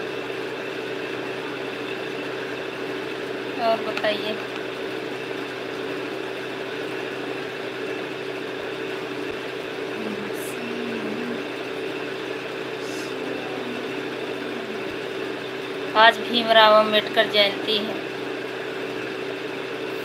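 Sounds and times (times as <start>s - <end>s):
machine hum with steady tone: 0.0s - 20.0s.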